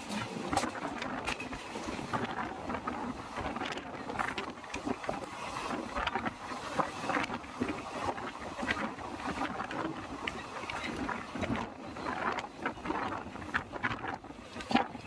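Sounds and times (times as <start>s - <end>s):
train rattles and knocks: 0.0s - 15.0s
train rumbling: 0.0s - 15.0s
wind buffeting microphone: 0.0s - 15.0s.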